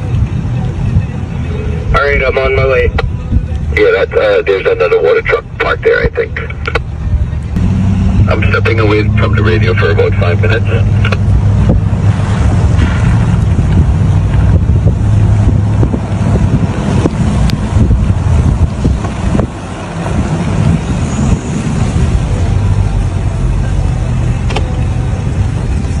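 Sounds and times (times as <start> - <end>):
motor vehicle engine rumbling: 0.0 - 26.0.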